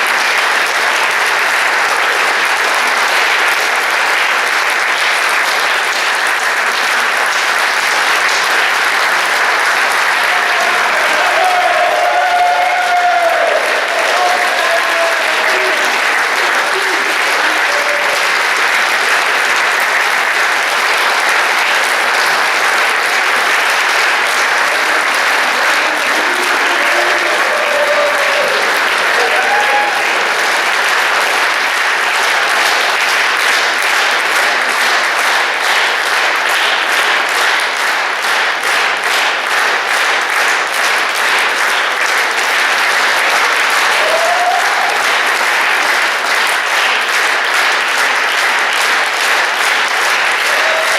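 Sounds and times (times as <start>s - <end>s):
audience applauding: 0.0s - 50.9s.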